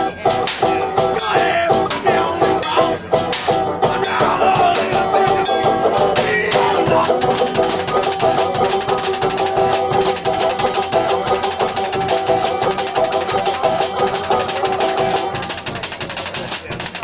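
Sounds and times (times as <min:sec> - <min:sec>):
banjo playing: 0:00.0 - 0:17.0
drum kit with bass drum: 0:00.0 - 0:17.0.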